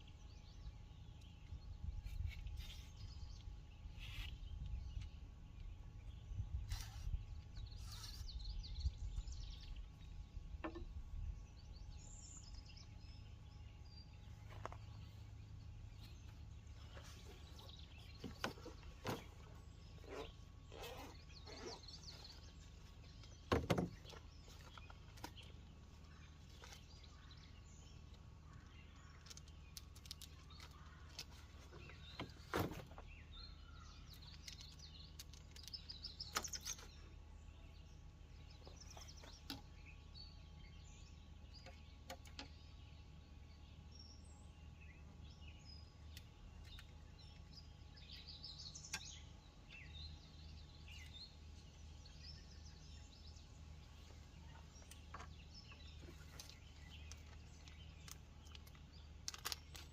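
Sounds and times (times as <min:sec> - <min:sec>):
birds chirping: 0:00.0 - 0:59.9
low steady rumble: 0:00.0 - 0:59.9.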